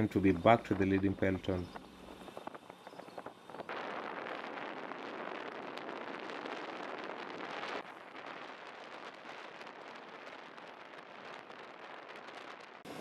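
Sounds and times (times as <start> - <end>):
road noise: 0.0 - 13.0
rushing wind: 0.0 - 13.0
faint crackles: 0.2 - 13.0.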